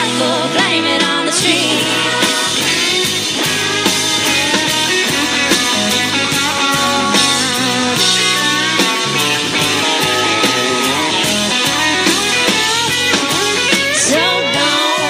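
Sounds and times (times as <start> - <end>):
country band playing: 0.0 - 15.0.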